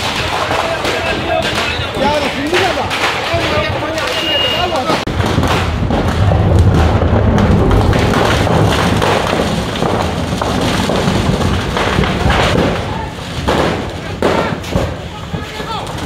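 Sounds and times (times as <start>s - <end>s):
fire rumbling: 0.0s - 16.0s
firecrackers banging and crackling: 0.0s - 16.0s.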